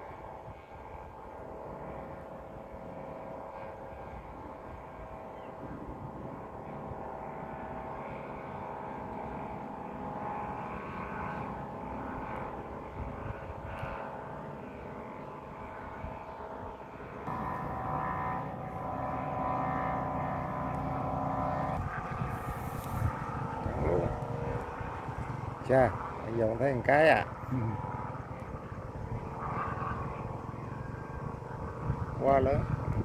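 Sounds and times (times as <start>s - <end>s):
kite flutes droning: 0.0s - 33.0s
strong wind: 0.0s - 33.0s.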